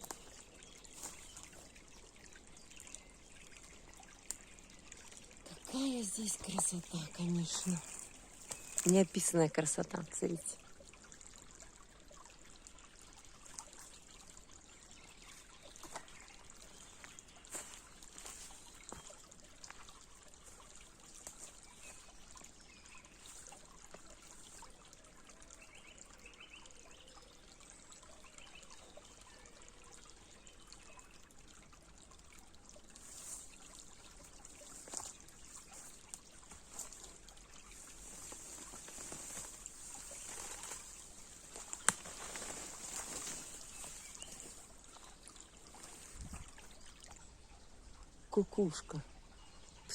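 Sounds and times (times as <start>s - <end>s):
stream trickling: 0.0s - 49.9s.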